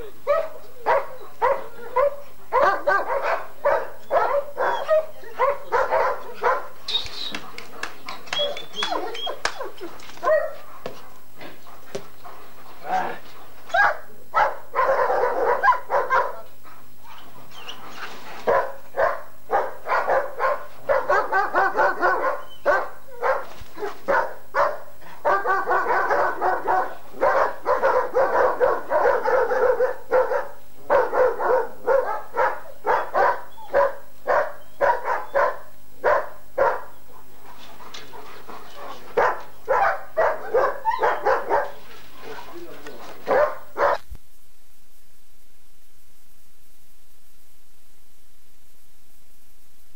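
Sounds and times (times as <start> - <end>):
dog barking: 0.0 - 12.0, 12.8 - 16.5, 18.4 - 37.3, 38.0 - 44.0.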